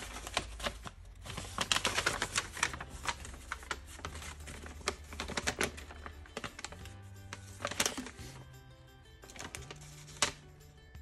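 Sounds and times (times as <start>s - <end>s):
paper crumpling and rustling: 0.0s - 8.6s, 9.2s - 10.6s.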